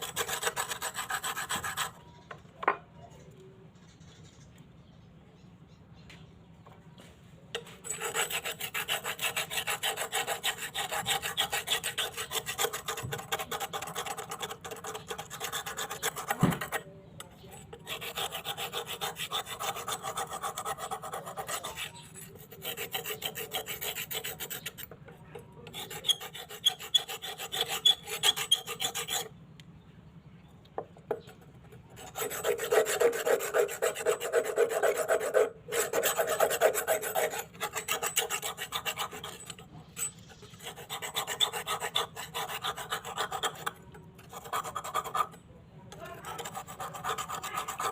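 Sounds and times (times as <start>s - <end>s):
scraping rust off knife blade: 7.6s - 29.3s, 31.1s - 47.9s.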